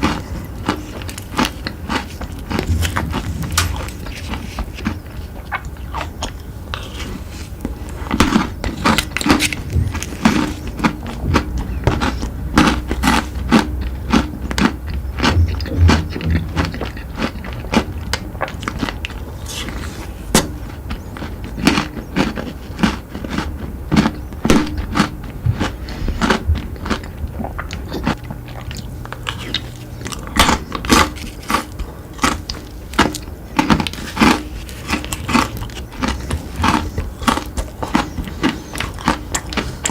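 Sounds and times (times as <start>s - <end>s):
crunchy chewing of sweets: 0.0s - 39.9s.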